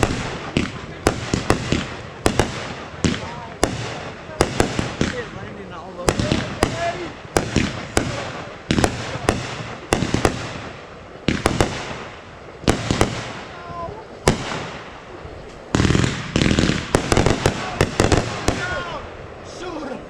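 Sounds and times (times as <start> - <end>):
rapid firework cracks: 0.0 - 19.5
fireworks bangs: 0.0 - 20.0.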